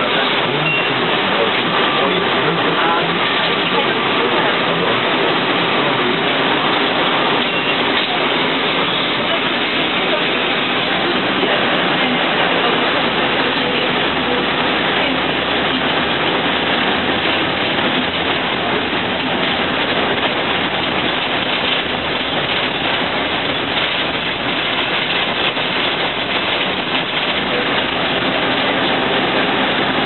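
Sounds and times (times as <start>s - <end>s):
bus engine running: 0.0s - 30.0s.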